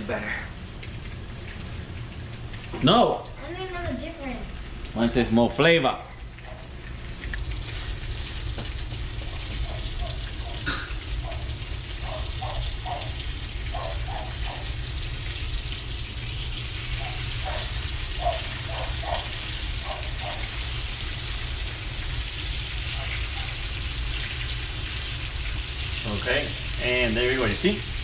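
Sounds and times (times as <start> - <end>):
fish searing in frying pan: 0.0 - 28.0.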